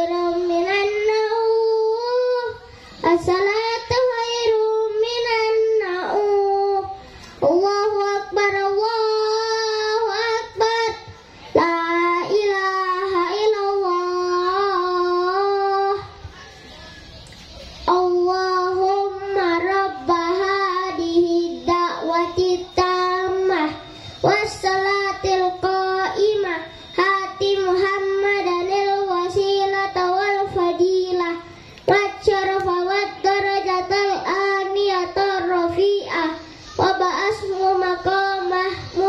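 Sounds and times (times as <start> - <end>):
child singing into a microphone: 0.0 - 16.7, 17.3 - 39.0.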